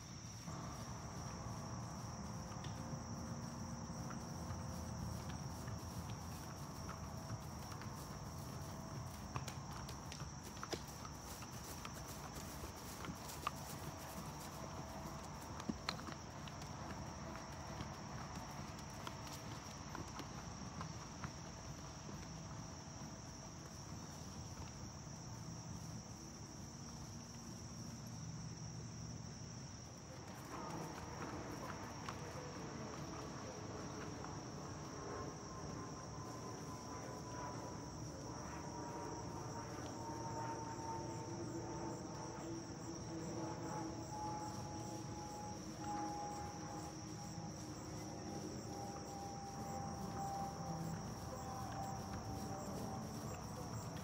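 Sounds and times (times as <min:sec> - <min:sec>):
crickets chirring: 0:00.0 - 0:54.0
horse hoofbeats on turf: 0:00.3 - 0:27.1, 0:30.1 - 0:40.8, 0:41.4 - 0:54.0.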